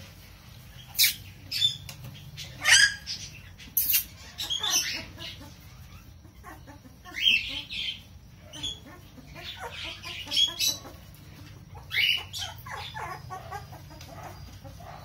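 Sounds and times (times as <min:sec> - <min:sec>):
puppies yelping: 0:00.9 - 0:15.0.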